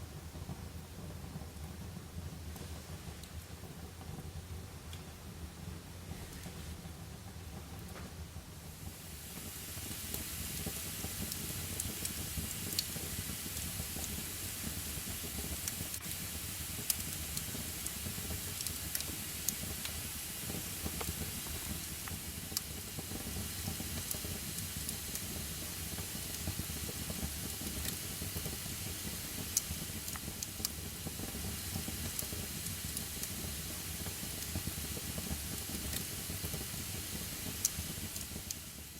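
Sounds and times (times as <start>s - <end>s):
fire crackling: 0.0s - 38.9s
fire hissing: 4.9s - 38.9s.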